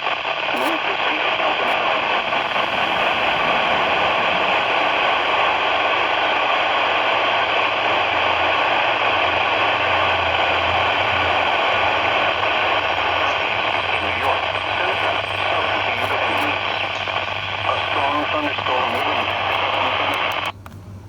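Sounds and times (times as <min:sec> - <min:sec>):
radio static hiss: 0:00.0 - 0:20.6
low hum: 0:01.2 - 0:20.5.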